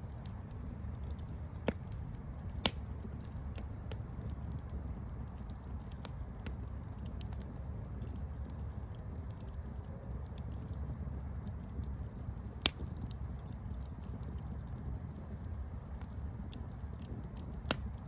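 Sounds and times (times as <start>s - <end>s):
campfire crackling: 0.0s - 18.0s
campfire sharp pops: 0.1s - 8.6s, 11.3s - 18.0s.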